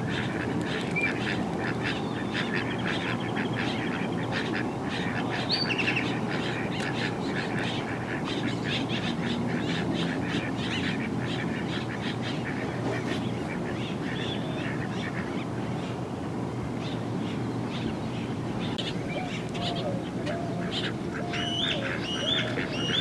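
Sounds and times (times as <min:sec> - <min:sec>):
many birds calling: 0:00.0 - 0:23.0.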